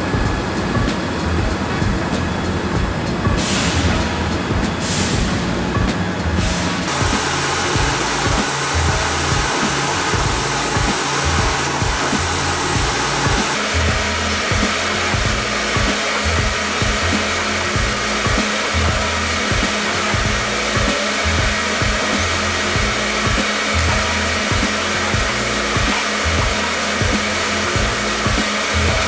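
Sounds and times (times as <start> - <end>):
pulsing bass background music: 0.0 - 29.0.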